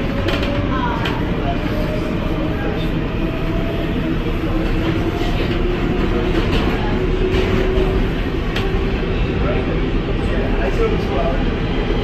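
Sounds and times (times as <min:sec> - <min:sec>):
subway wheels rumbling on track: 0:00.0 - 0:12.0.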